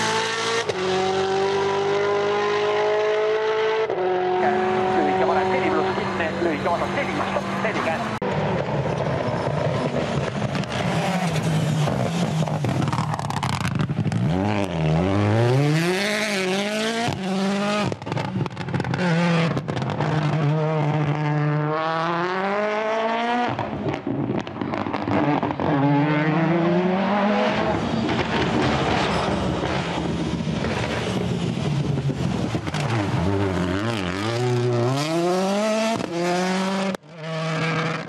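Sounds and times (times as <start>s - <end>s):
rally car engine revving hard: 0.0s - 38.0s.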